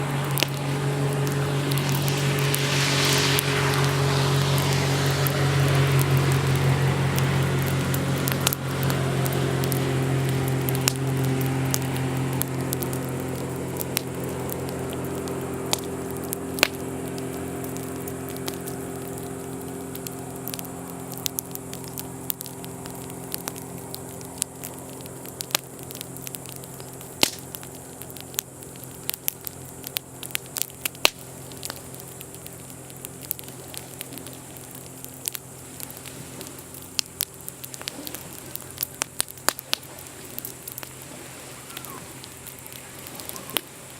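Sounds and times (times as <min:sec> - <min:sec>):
campfire crackling and popping: 0:00.0 - 0:43.9
engine low hum: 0:00.0 - 0:43.9.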